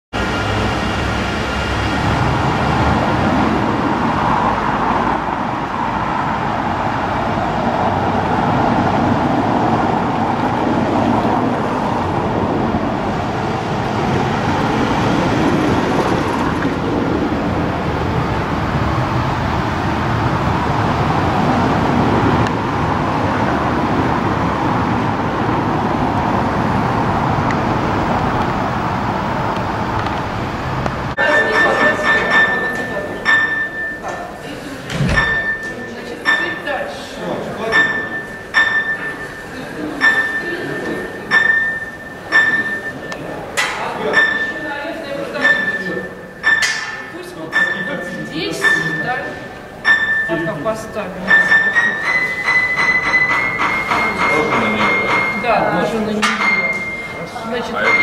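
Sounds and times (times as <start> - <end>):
cars passing on a road: 0.1 - 58.0.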